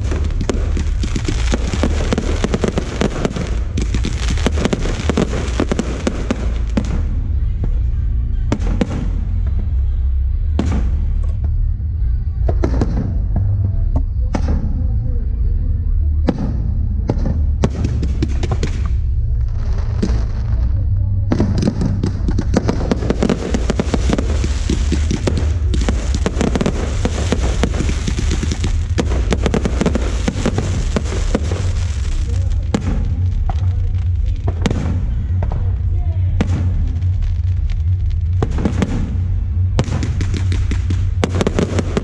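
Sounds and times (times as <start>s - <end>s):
fireworks bursting: 0.0s - 11.6s, 16.3s - 42.0s
dense firework crackling: 0.0s - 13.8s, 16.2s - 42.0s
steady low rumble: 0.0s - 42.0s.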